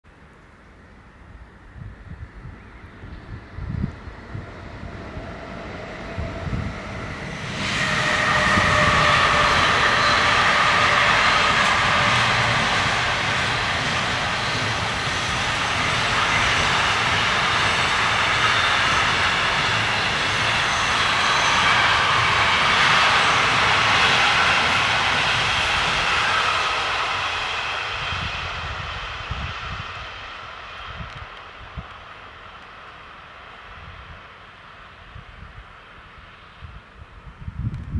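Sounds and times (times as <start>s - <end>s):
freight train wheels on rails: 0.3s - 37.9s.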